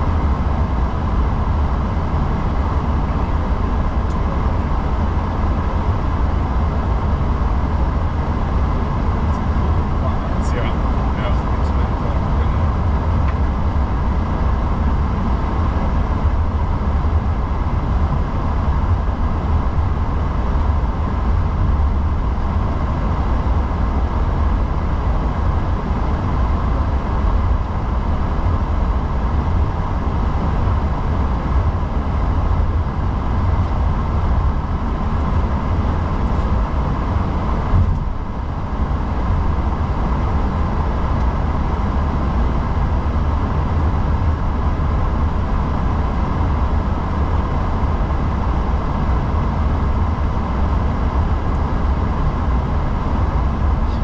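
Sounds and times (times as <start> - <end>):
aircraft cockpit low rumble: 0.0 - 54.0.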